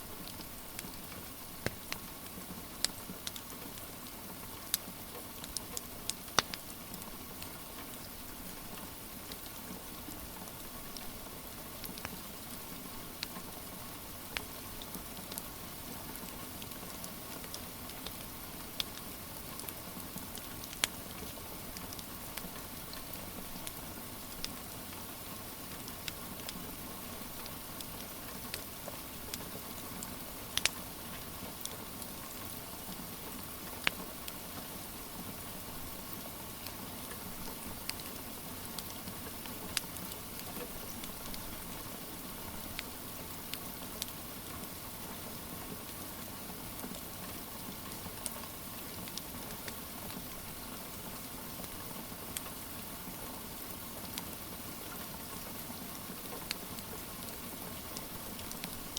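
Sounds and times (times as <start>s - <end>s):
wood fire crackling: 0.0s - 52.9s, 53.6s - 58.9s
steady rain: 0.0s - 58.9s.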